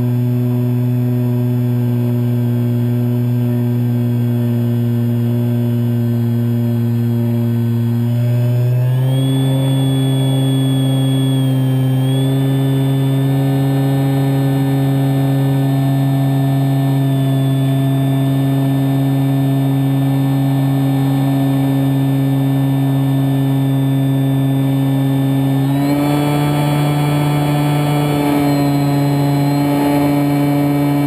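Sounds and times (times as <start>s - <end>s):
electric motor whine: 0.0s - 31.0s.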